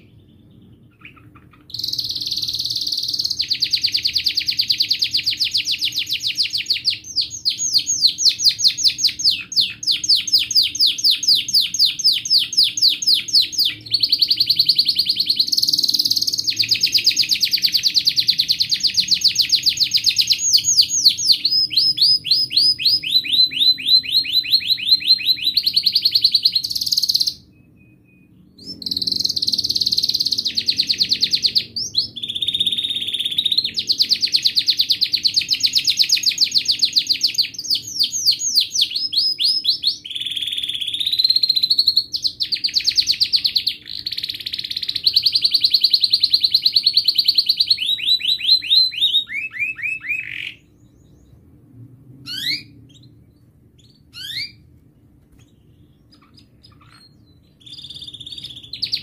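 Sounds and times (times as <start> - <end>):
canary singing trills: 0.0 - 51.6, 52.2 - 59.0.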